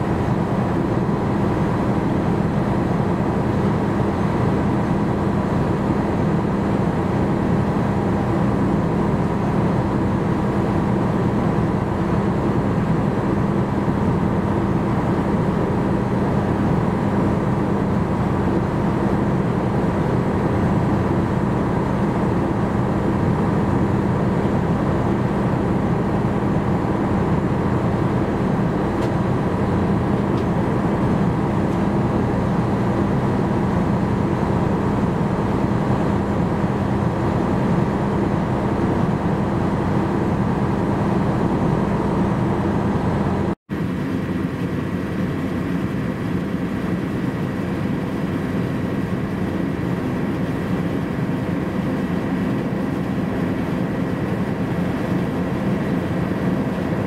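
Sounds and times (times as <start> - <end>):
ship engine drone: 0.0 - 57.0.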